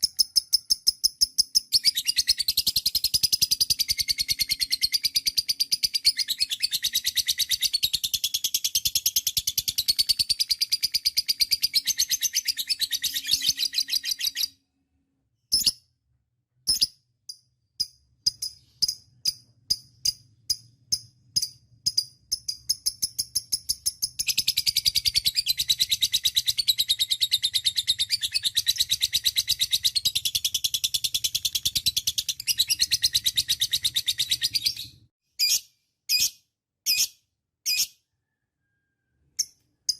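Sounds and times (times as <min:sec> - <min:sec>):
lovebird sharp chirps: 0:00.0 - 0:14.6, 0:15.5 - 0:15.9, 0:16.6 - 0:39.9.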